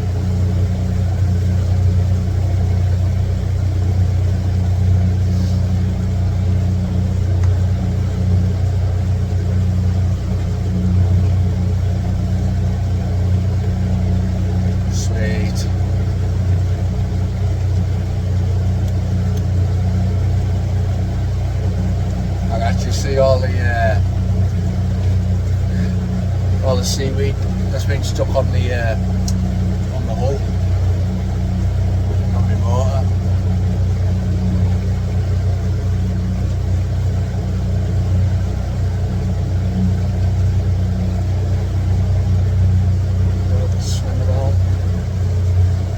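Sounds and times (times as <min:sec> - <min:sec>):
boat motor droning: 0:00.0 - 0:45.9
faint water wash: 0:00.0 - 0:45.9.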